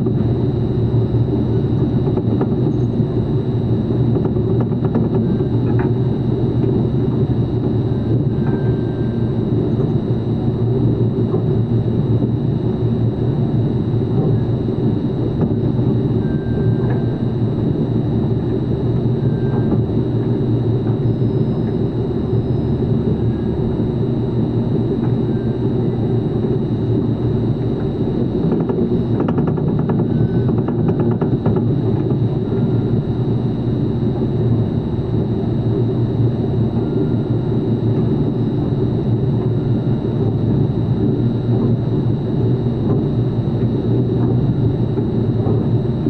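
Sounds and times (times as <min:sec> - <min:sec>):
faint high whine: 0:00.0 - 0:46.0
machinery low rumble: 0:00.0 - 0:46.0.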